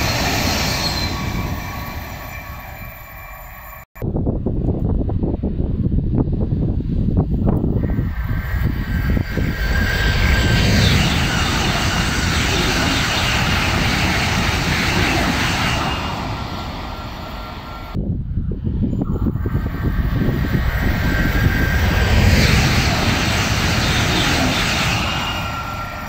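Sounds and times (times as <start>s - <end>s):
high-speed train passing: 0.0s - 26.0s
wind buffeting microphone: 4.0s - 26.0s.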